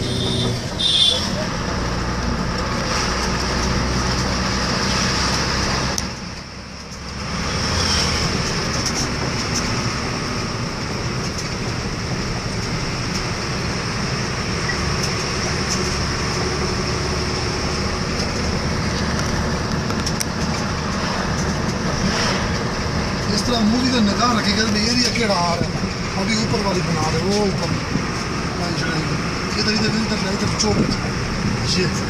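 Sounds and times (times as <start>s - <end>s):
vehicle driving on paved road: 0.0s - 32.0s.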